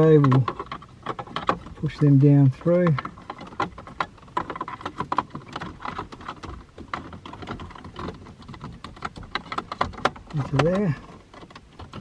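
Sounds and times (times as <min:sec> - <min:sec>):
small plastic clicks and rattles: 0:00.0 - 0:12.0.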